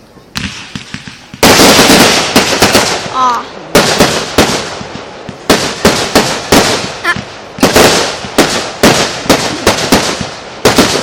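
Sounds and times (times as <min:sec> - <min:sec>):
fireworks exploding: 0:00.2 - 0:11.0.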